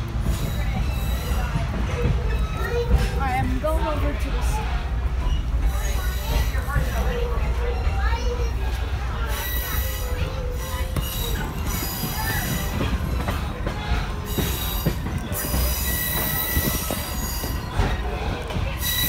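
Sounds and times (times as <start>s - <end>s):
steel wheel squealing on rails: 0.0s - 19.0s
train coach rumbling on track: 0.0s - 19.0s.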